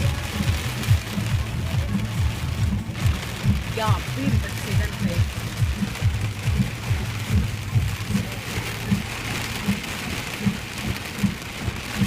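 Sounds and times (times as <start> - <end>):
heavy rain drumming on a car: 0.0 - 12.0.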